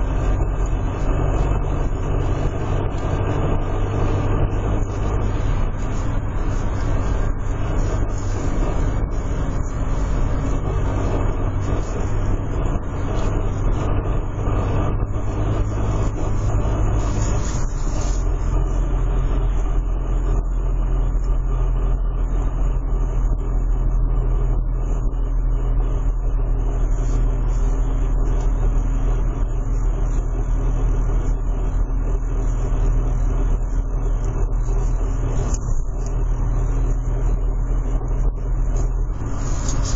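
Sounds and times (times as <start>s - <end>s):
diesel engine running: 0.0s - 39.9s
pitched drone: 0.0s - 39.9s.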